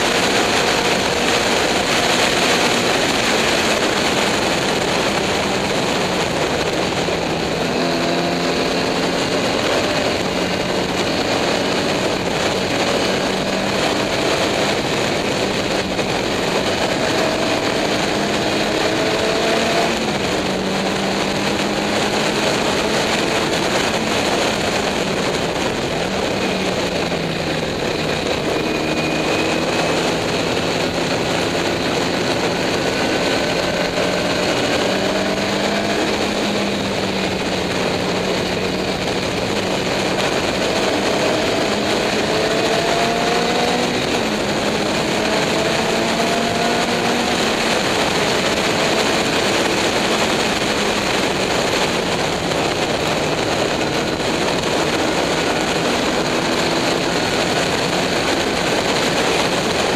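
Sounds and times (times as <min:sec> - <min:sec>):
racing car engine revving: 0:00.0 - 0:59.9
wind and road noise: 0:00.0 - 0:59.9.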